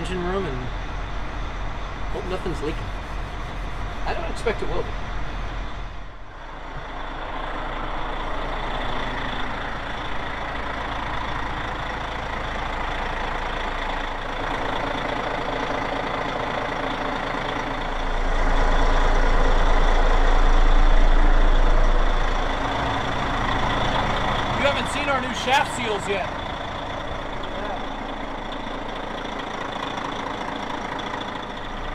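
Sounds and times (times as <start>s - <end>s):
boat engines idling: 0.0s - 31.9s.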